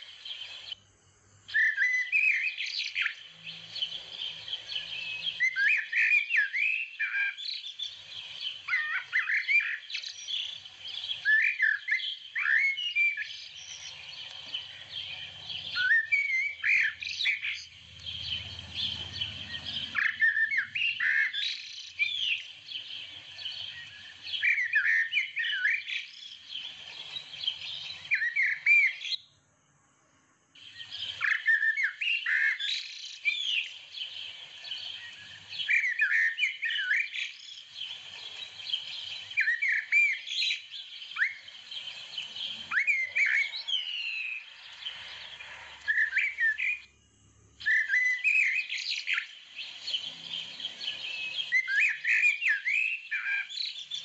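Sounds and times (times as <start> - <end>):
birds chirping and singing: 0.0 - 0.8, 1.5 - 29.2, 30.6 - 46.9, 47.6 - 54.0.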